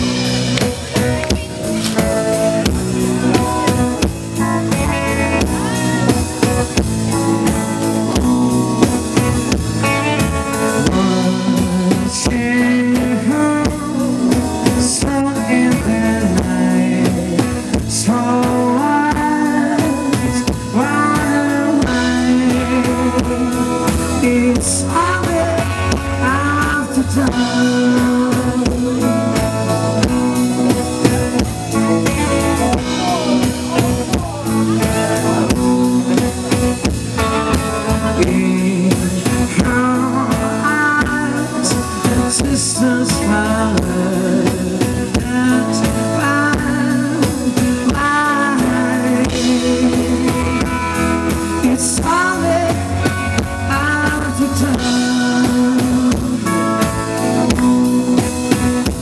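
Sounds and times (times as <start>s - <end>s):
live blues-rock band playing: 0.0s - 59.0s.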